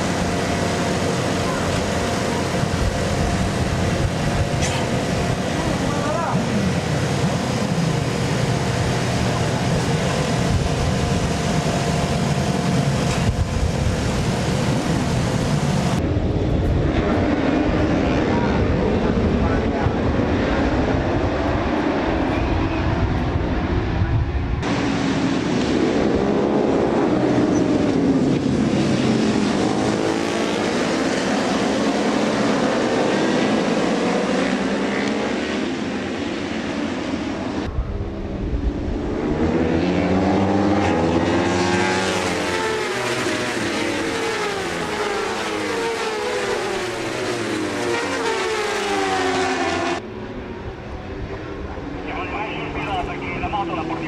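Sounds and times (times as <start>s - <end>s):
racing motorcycle engines revving: 0.0s - 54.0s.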